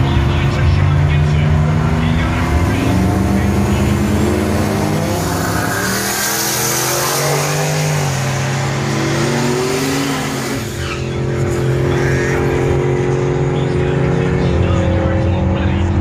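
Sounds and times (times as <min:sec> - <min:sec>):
engine running hard: 0:00.0 - 0:16.0.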